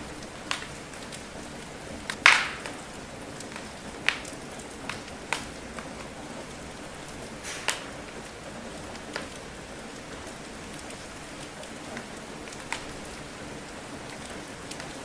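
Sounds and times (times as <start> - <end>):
rain pattering: 0.0 - 15.0
wood fire crackling: 0.0 - 15.0.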